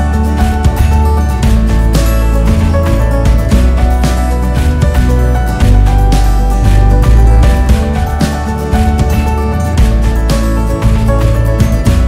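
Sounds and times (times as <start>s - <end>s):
background music with regular beat: 0.0s - 12.0s.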